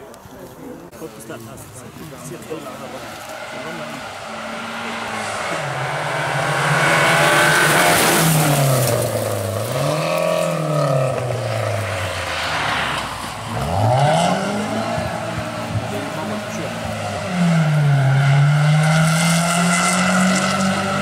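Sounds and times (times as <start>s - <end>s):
rally car engine revving: 2.3s - 21.0s.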